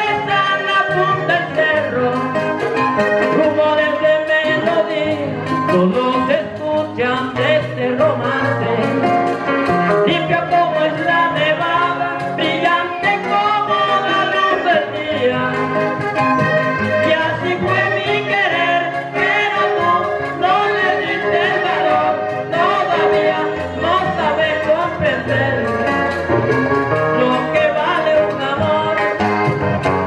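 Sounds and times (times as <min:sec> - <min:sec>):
man singing: 0:00.0 - 0:29.9
button accordion: 0:00.0 - 0:30.0
guitar: 0:00.0 - 0:30.0.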